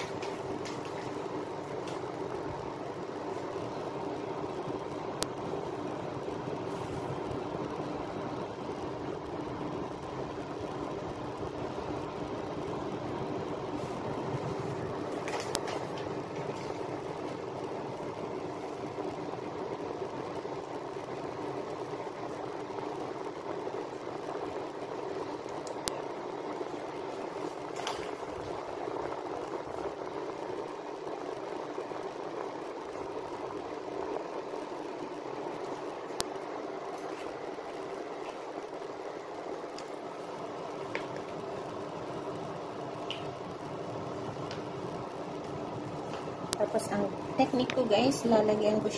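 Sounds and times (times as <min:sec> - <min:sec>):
oven fan humming: 0:00.0 - 0:48.9.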